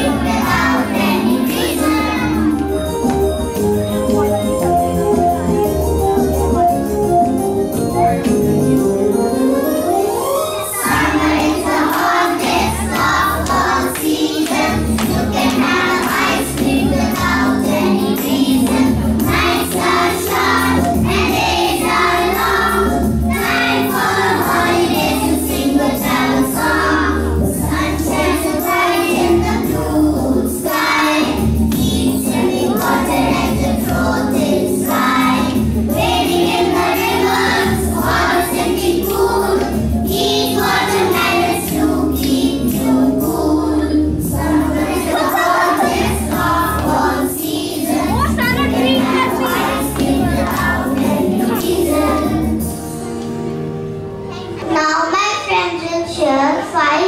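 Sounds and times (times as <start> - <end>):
children's choir singing: 0.0 - 6.8, 9.1 - 52.8
music with steady beat: 0.0 - 54.0.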